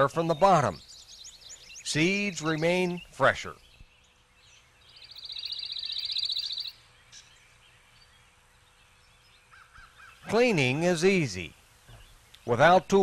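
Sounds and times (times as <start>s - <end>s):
songbird trilling: 0.0s - 11.2s
faint outdoor background: 0.0s - 13.0s.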